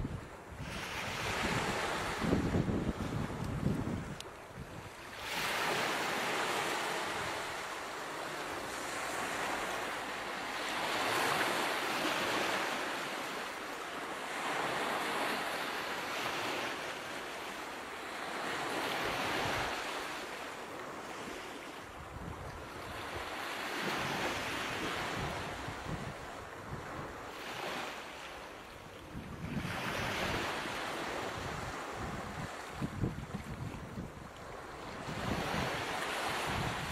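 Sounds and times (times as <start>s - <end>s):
waves rushing in and drawing back: 0.0s - 36.9s.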